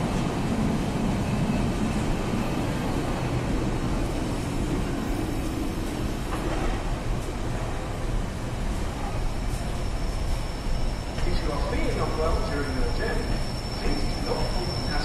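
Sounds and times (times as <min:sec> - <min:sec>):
freight train wheels rumbling on rails: 0:00.0 - 0:15.0.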